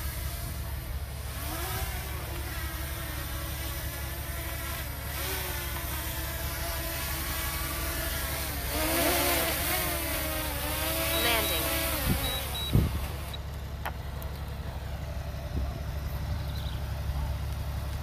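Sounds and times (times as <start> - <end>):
heavy diesel engines under load: 0.0 - 18.0.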